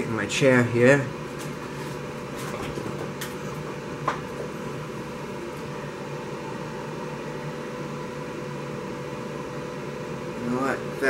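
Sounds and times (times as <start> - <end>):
laser cutter humming: 0.0 - 11.0.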